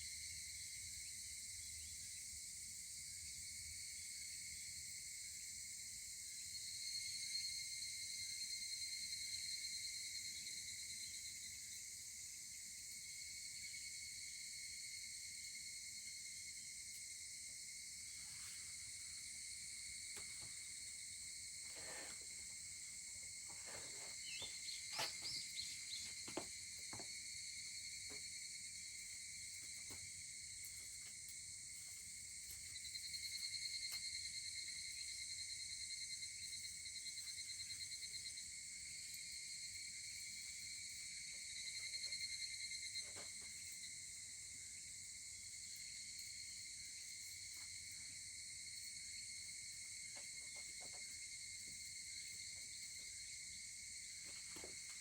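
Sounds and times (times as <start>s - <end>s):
cicadas: 0.0s - 55.0s
crickets chirping: 0.0s - 55.0s.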